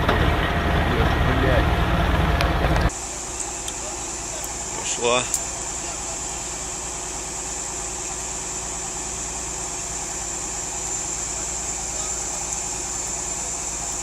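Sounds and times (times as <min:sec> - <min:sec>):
engine running steadily: 0:00.0 - 0:14.0
high-pitched whine: 0:00.0 - 0:14.0.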